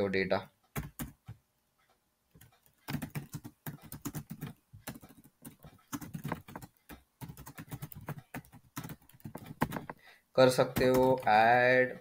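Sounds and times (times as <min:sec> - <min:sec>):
keyboard typing: 0:00.7 - 0:01.4, 0:02.3 - 0:11.6.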